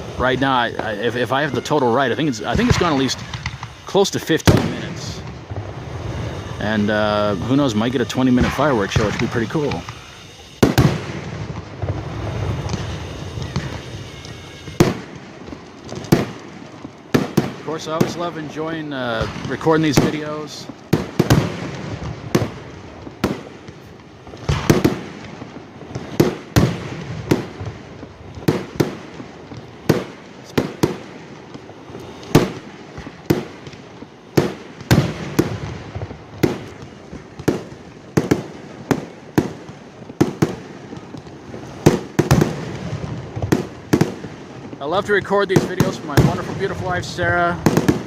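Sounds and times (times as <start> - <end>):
fireworks bangs with rumbling echo: 0.0 - 48.0.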